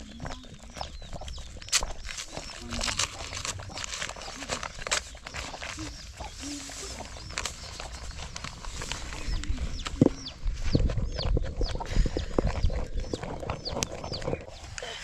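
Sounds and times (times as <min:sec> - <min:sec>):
chickens clucking: 0:00.0 - 0:15.0
high chirping calls: 0:00.0 - 0:15.0.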